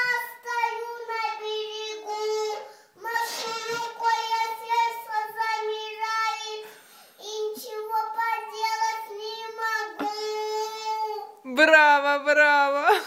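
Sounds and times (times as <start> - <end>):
toddler girl singing: 0.0 - 11.4.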